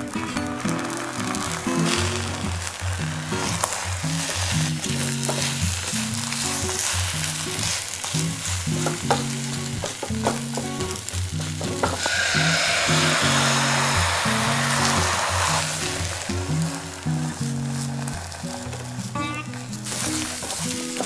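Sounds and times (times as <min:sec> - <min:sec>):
egg sizzling: 0:00.0 - 0:21.0.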